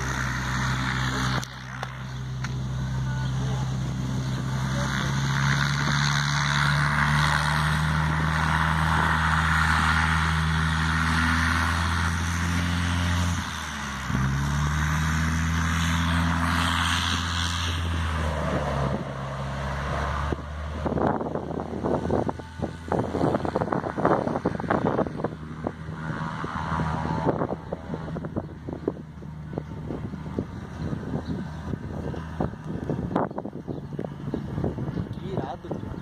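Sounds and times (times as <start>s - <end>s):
light aircraft engine and propeller: 0.0s - 36.0s.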